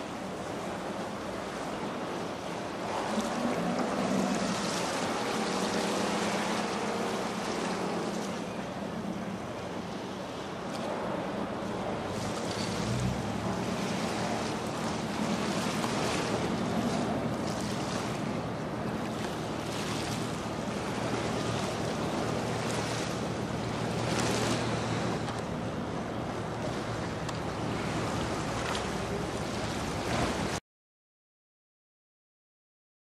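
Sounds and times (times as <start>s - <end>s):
boat engine low hum: 0.0s - 30.6s
water lapping: 0.0s - 30.6s.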